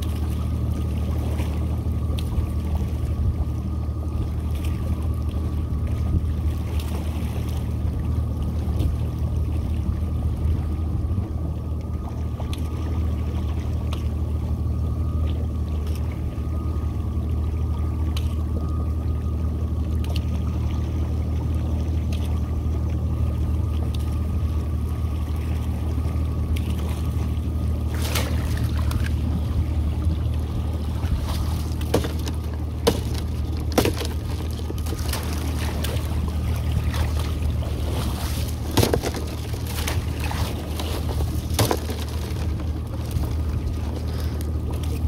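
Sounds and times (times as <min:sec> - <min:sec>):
boat motor droning: 0:00.0 - 0:45.0
water splashing along hull: 0:00.0 - 0:45.0.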